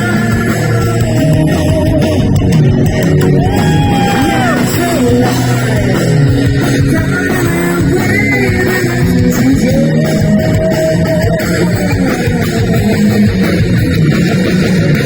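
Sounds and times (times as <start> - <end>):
heavy rock band playing: 0.0 - 15.0
sliding lead electric guitar: 0.0 - 15.0.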